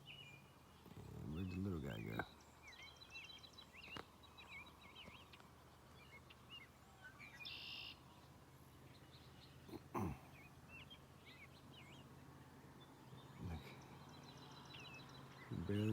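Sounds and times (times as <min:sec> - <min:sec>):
birds chirping and whistling: 0:00.0 - 0:15.9.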